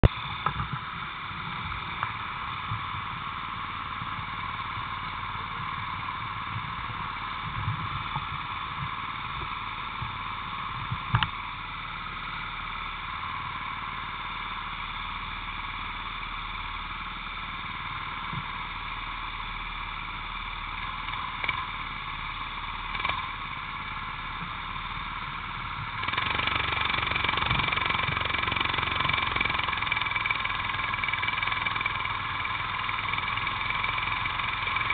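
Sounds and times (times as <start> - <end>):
kart engine running: 0.9 - 34.9.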